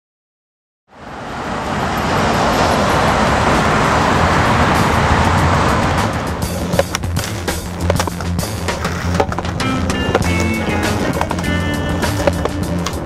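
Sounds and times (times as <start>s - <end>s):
cars passing: 0.9s - 13.0s.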